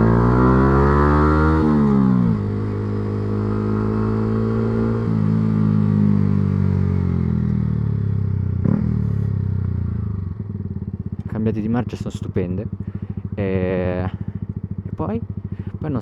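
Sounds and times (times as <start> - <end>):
motorcycle engine shifting gears: 0.0 - 7.8, 8.5 - 12.0, 14.1 - 15.8.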